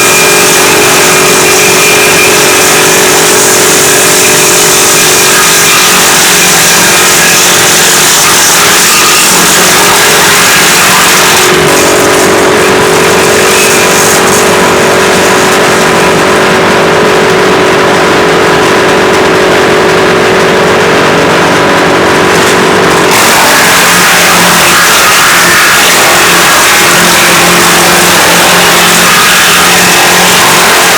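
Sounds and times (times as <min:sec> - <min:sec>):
woodchipper running: 0:00.0 - 0:30.9.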